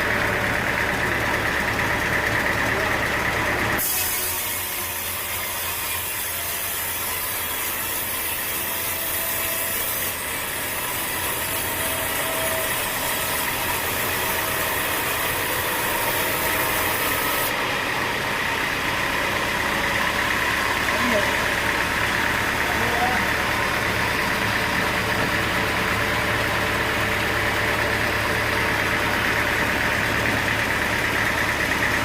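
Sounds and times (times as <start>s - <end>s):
continuous machinery hiss: 0.0s - 32.0s
sawmill motor: 0.0s - 32.0s.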